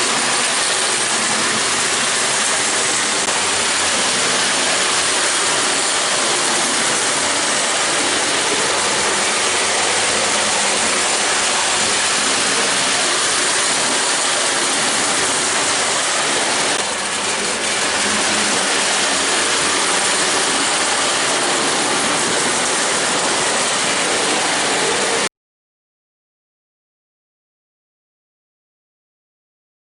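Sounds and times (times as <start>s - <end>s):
toy train motor whirring and rattling: 0.0s - 25.3s.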